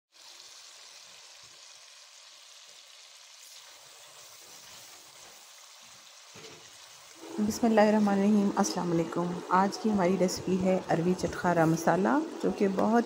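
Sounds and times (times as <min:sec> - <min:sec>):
gravy sizzling in a pan: 0:00.1 - 0:13.0.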